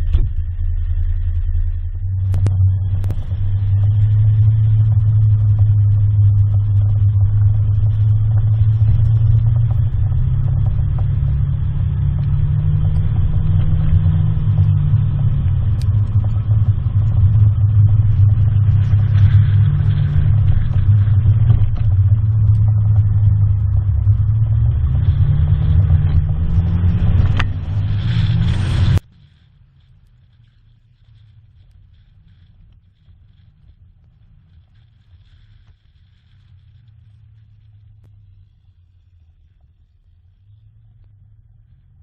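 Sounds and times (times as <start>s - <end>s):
engine drone: 0.0s - 42.0s.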